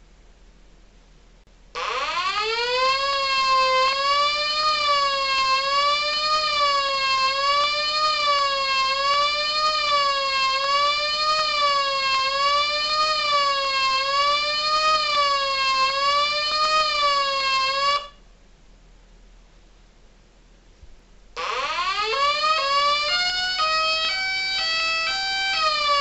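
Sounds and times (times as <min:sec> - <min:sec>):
electronic siren wailing: 0:01.8 - 0:18.2, 0:21.4 - 0:26.0.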